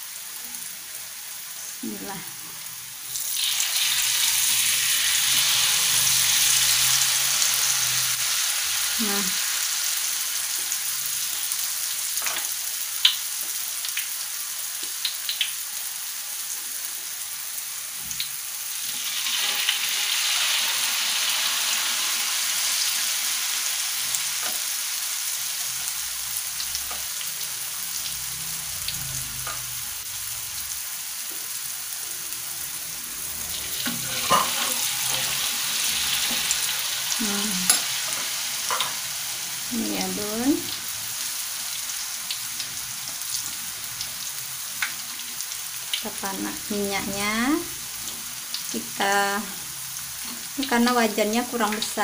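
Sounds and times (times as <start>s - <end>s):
batter sizzling in hot oil: 0.0s - 52.0s.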